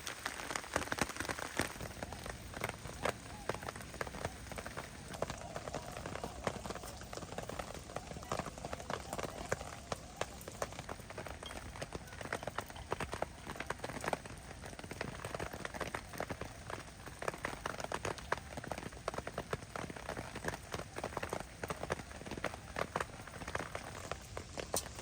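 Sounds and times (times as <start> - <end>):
rain drops striking a surface: 0.0 - 25.0
steady rain hiss: 0.0 - 25.0.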